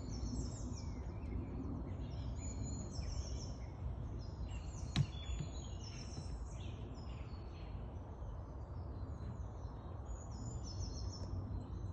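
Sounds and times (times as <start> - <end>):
small birds singing: 0.0 - 11.9.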